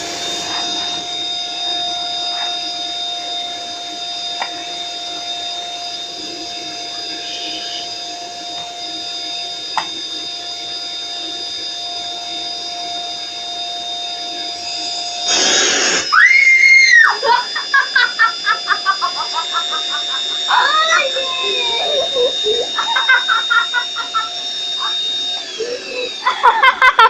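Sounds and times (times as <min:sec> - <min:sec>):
vacuum cleaner motor whine: 0:00.0 - 0:27.0.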